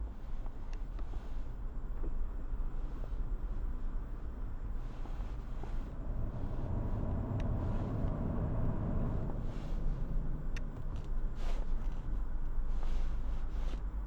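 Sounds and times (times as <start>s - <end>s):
car tyre and road noise: 0.0s - 14.0s.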